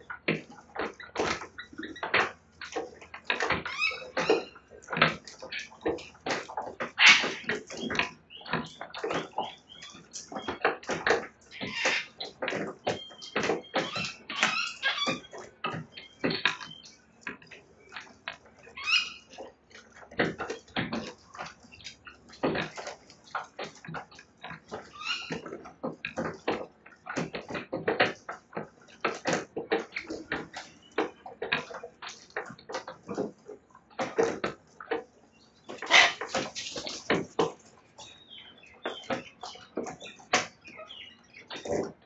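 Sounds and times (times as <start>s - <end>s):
birds gnawing wood: 0.0s - 42.0s.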